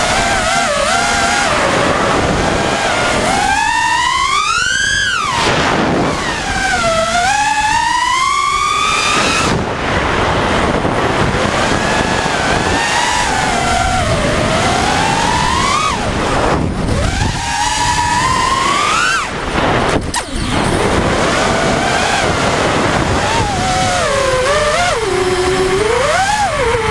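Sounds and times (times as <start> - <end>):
quadcopter motors whining: 0.0 - 26.9.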